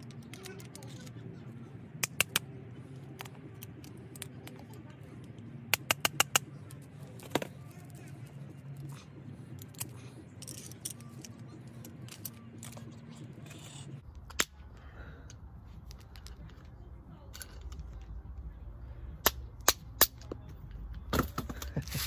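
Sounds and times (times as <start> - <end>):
low hum: 0.0 - 21.7.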